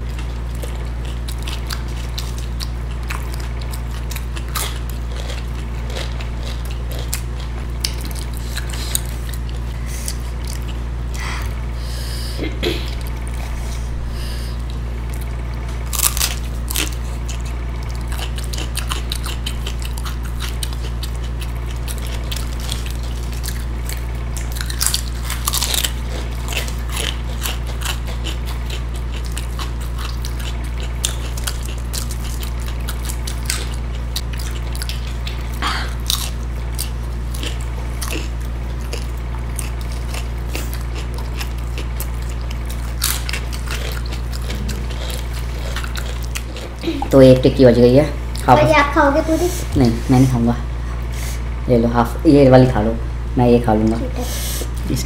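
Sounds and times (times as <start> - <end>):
crunchy chewing: 0.0 - 11.7, 12.8 - 47.2
low hum: 0.0 - 55.0.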